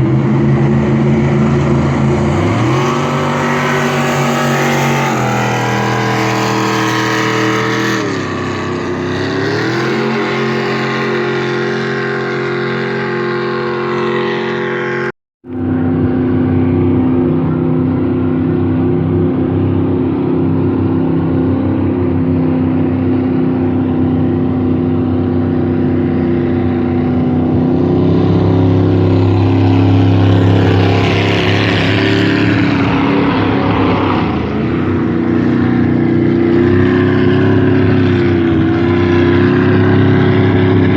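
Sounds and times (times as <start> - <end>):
jet boat engine running: 0.0 - 40.9.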